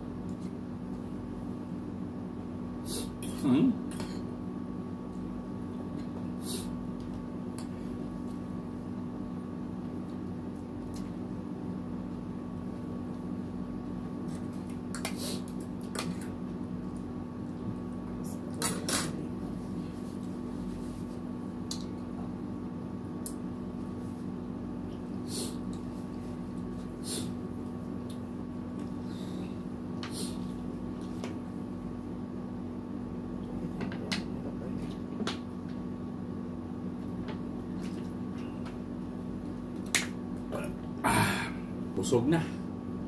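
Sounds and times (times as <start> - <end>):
steady hum: 0.0 - 43.0.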